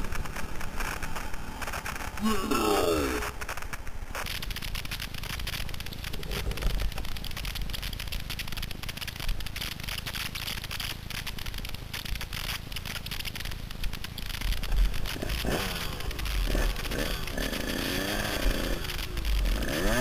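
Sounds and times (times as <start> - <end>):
crackling and scraping in brush: 0.0 - 20.0.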